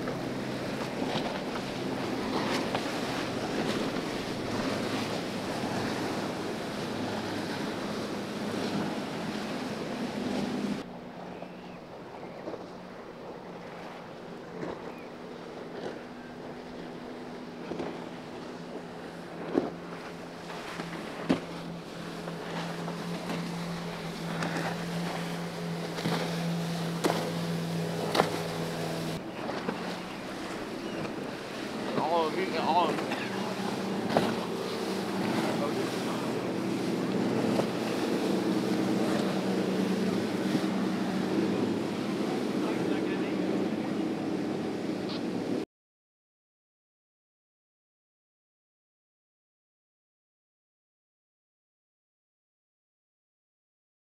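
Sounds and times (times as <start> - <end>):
water wash: 0.0 - 11.3, 11.9 - 45.6
boat engine drone: 0.0 - 45.6
outboard motor running: 0.0 - 45.6
waves and spray: 0.0 - 45.6
wind: 0.0 - 45.6.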